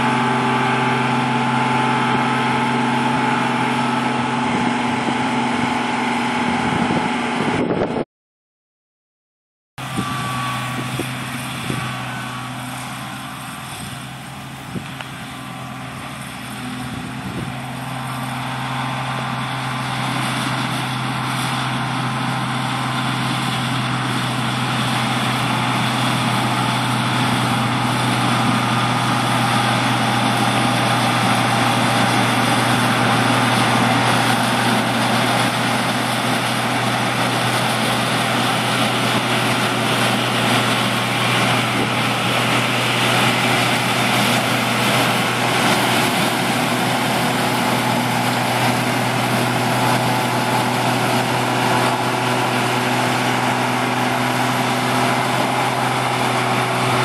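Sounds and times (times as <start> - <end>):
heavy machinery running: 0.0 - 8.0, 9.8 - 57.0.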